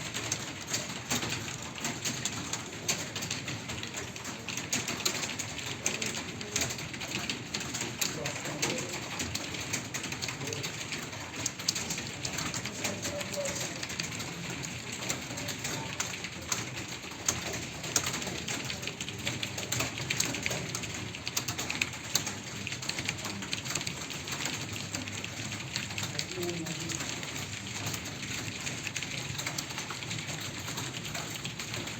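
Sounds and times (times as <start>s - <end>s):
many keyboards typing: 0.0s - 31.9s.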